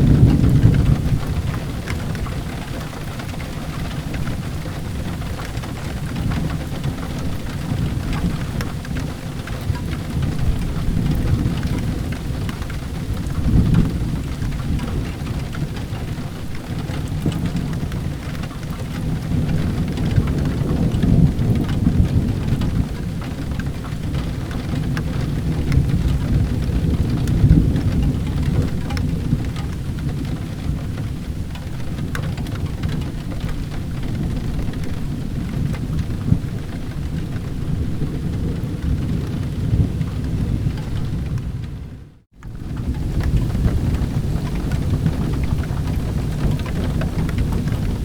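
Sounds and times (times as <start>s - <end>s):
low rolling thunder: 0.0s - 48.0s
steady rain: 0.0s - 48.0s.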